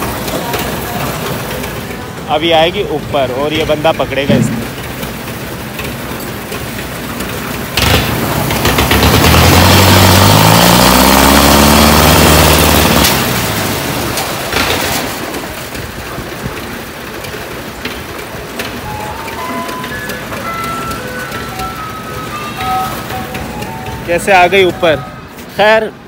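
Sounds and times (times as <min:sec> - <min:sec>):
lift machine engine revving: 0:00.0 - 0:14.6, 0:16.2 - 0:25.4.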